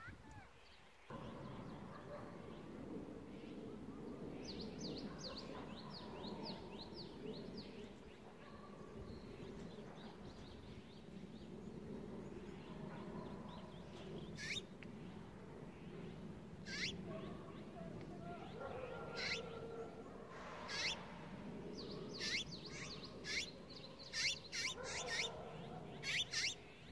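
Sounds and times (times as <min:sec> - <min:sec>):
low outdoor background: 0:00.0 - 0:26.9
small songbirds calling: 0:03.4 - 0:26.9.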